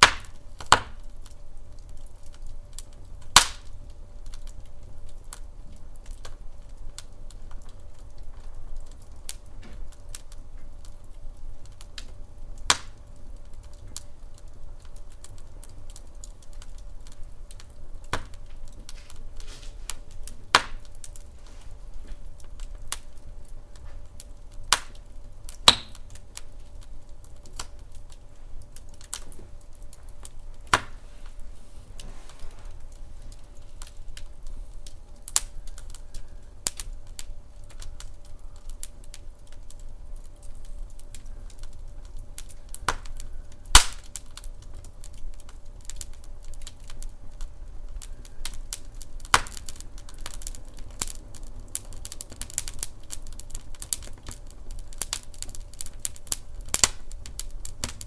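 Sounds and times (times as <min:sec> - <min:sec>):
low steady rumble: 0:00.0 - 0:58.0
wood fire crackling: 0:00.0 - 0:58.0.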